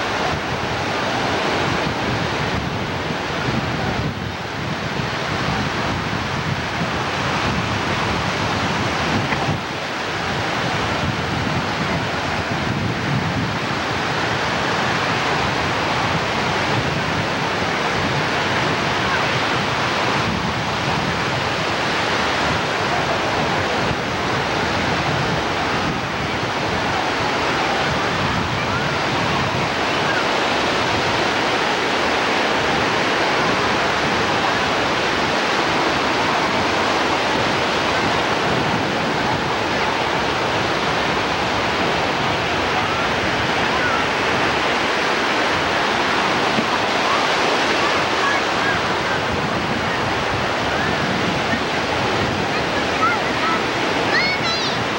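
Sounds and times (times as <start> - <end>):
ocean surf breaking: 0.0 - 54.9.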